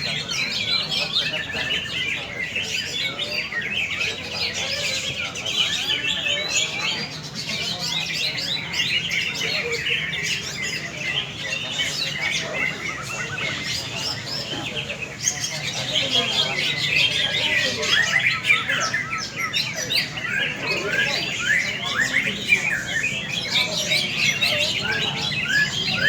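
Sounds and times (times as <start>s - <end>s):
many caged birds singing: 0.0s - 26.0s.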